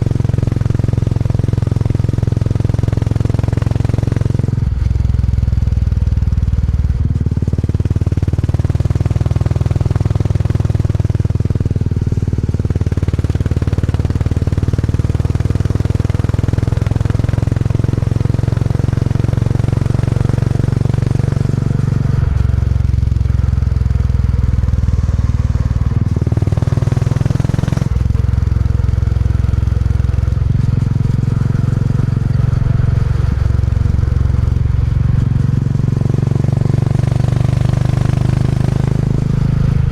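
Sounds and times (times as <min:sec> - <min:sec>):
motorcycle engine thumping exhaust: 0:00.0 - 0:39.9.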